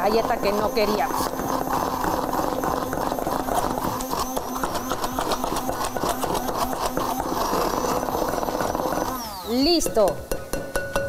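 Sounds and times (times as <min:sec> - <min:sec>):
stick blender churning in glass bowl: 0:00.0 - 0:10.1.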